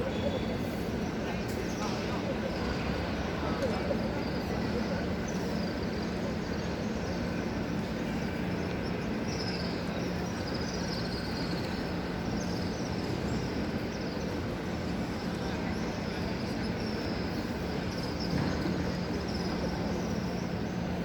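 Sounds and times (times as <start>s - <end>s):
large crowd talking: 0.0s - 21.0s.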